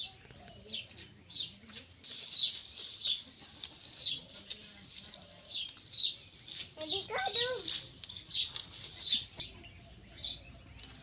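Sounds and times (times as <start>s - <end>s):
bird chirping: 0.0s - 11.0s
dry sticks clicking and rustling: 0.5s - 9.4s, 10.5s - 11.0s.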